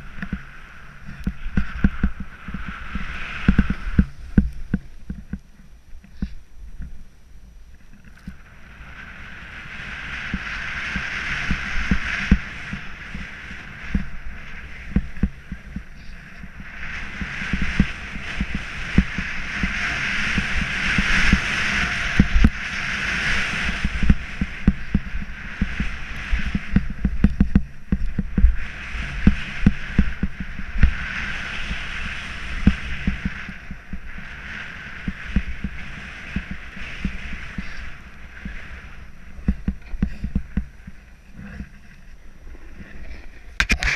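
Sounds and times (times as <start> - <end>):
board bumping over snow: 0.0 - 5.5, 7.8 - 43.9
snowboard scraping over snow: 0.0 - 7.0, 7.9 - 43.9
wind on microphone: 0.0 - 43.9.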